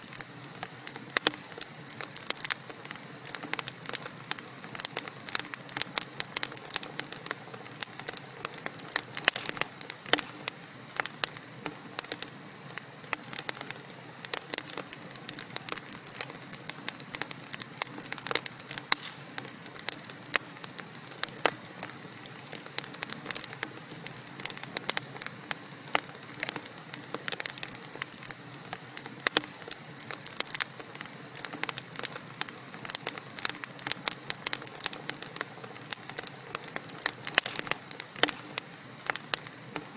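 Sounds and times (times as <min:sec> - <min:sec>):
hiss of flames: 0:00.0 - 0:39.9
logs crackling and popping: 0:00.0 - 0:39.9.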